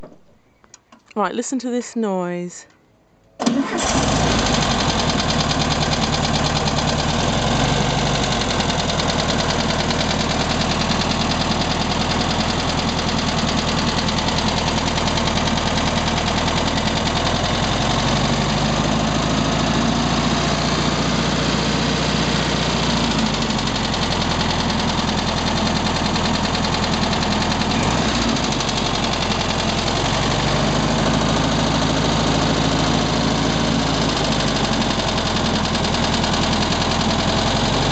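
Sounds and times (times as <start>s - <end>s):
car engine running: 3.8s - 37.9s
rapid engine knocking: 4.1s - 37.9s.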